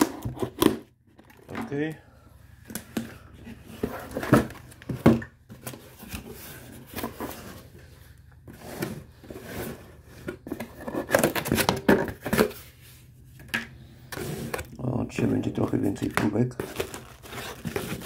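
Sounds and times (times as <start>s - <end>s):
cardboard and paper rustling: 2.6s - 18.0s.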